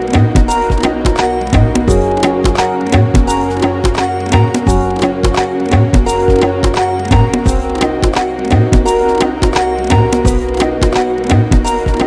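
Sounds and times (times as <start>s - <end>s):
percussive beat: 0.0s - 12.0s
plucked pitched notes: 0.0s - 12.0s.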